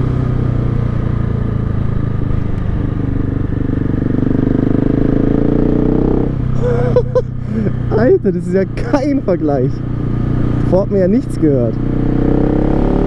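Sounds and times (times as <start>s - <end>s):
motorcycle engine riding along: 0.0s - 13.0s.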